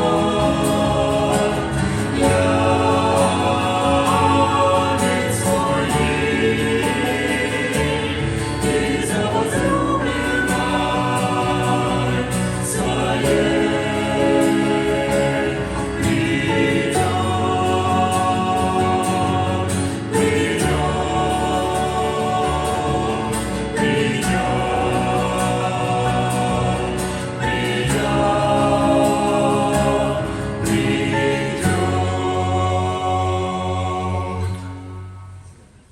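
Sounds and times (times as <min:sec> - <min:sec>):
choir singing sustained chords: 0:00.0 - 0:35.9.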